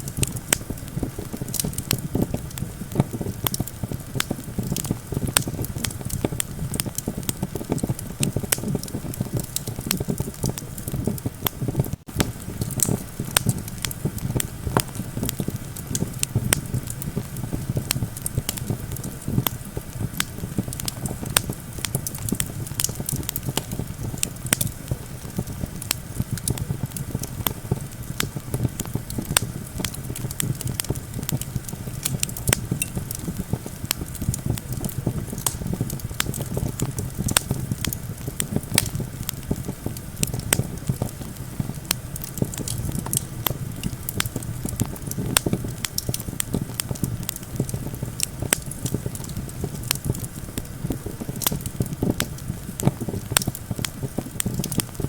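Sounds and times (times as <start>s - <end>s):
campfire crackling and popping: 0.0s - 55.0s
low wind rumble: 0.0s - 55.0s.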